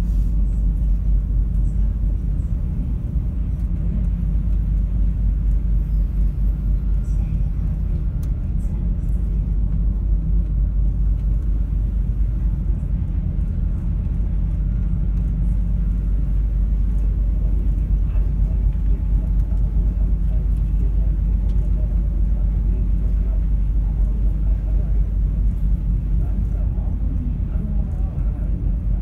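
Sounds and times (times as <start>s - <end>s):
ferry engines rumbling: 0.0s - 29.0s.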